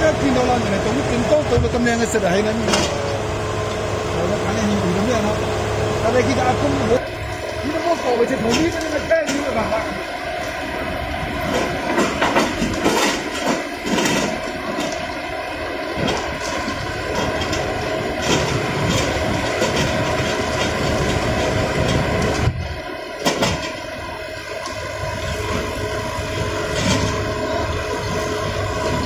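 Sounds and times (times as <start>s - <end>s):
diesel engine and hydraulics: 0.0s - 29.0s.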